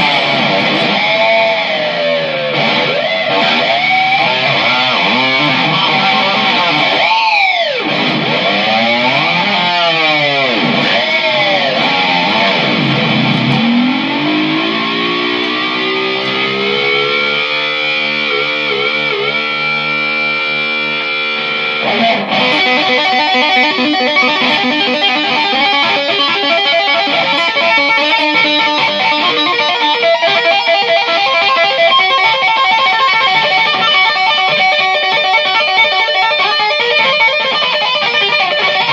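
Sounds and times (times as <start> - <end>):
instrumental music with heavy effects: 0.0 - 38.9.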